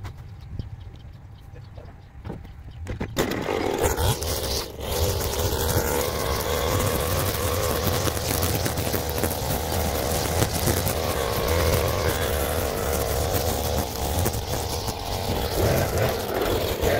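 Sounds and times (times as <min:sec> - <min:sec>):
brushcutter engine revving: 0:03.2 - 0:16.9.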